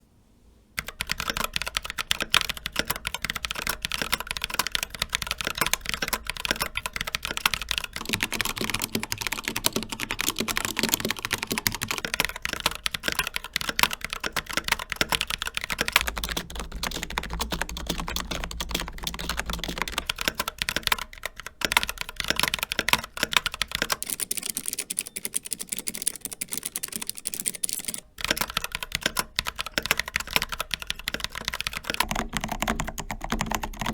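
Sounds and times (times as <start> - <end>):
fast typing on mechanical keyboards: 0.8 - 33.9.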